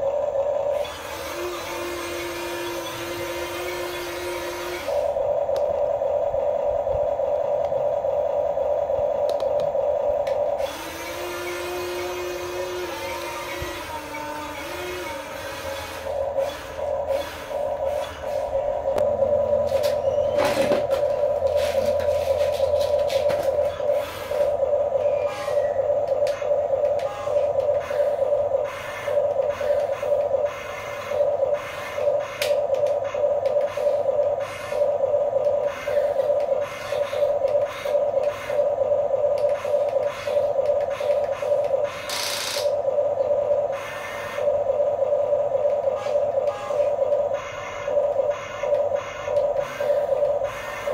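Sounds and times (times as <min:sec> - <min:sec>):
electric gear motors whining: 0:00.0 - 0:50.9.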